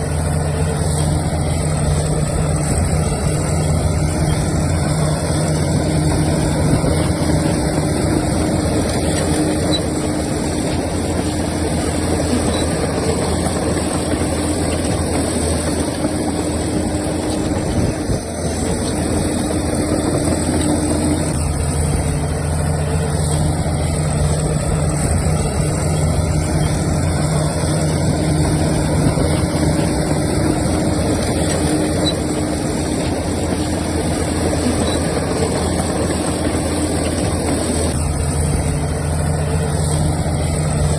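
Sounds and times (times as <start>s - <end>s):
diesel machinery engine running: 0.0s - 40.9s.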